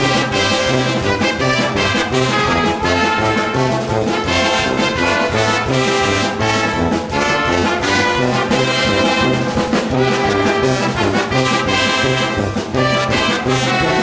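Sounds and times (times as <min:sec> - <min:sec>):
brass-heavy music with beat: 0:00.0 - 0:14.0.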